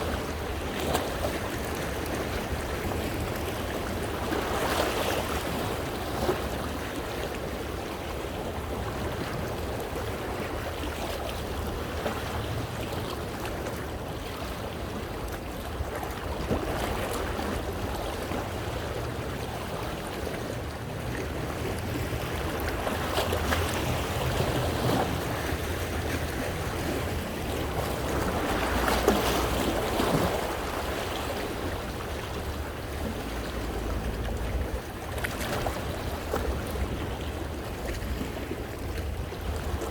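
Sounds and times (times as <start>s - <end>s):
waves splashing on rocks: 0.0s - 39.9s
wind rumble on microphone: 0.0s - 39.9s.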